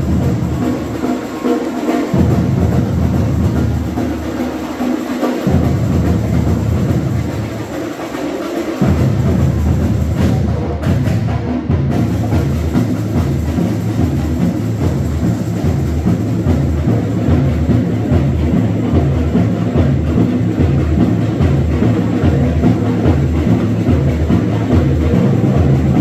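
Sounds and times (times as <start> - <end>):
samba percussion music: 0.0 - 26.0.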